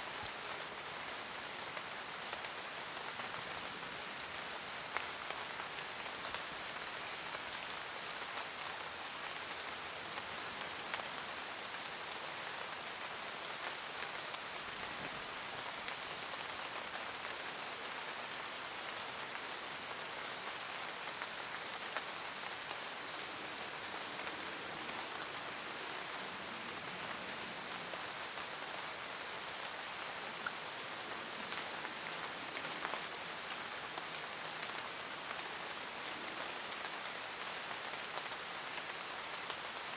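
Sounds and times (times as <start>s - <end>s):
rain hissing in forest: 0.0s - 39.9s
raindrops ticking on leaves: 0.1s - 39.9s.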